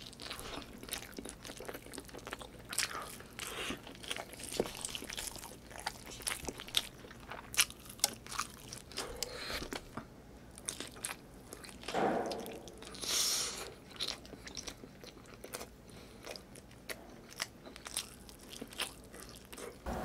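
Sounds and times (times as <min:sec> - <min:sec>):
close chewing and biting: 0:00.0 - 0:19.9.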